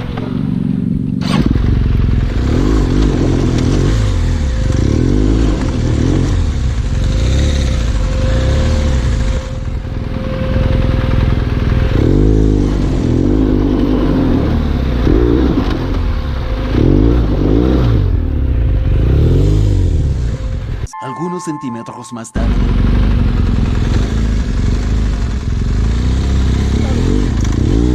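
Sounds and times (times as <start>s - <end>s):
motorcycle engine revving: 0.0s - 20.8s, 22.5s - 27.9s.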